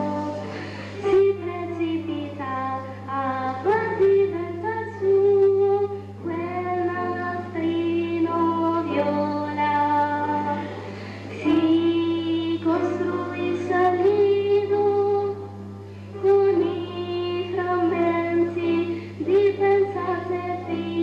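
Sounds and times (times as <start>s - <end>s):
young person singing: 0.0s - 15.5s, 16.1s - 21.0s
low steady hum: 0.0s - 21.0s
piano accompaniment: 0.0s - 21.0s.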